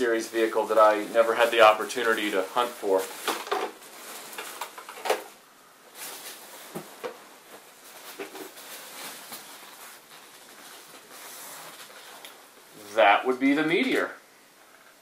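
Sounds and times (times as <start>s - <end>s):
packing peanuts rustling: 0.0s - 14.1s.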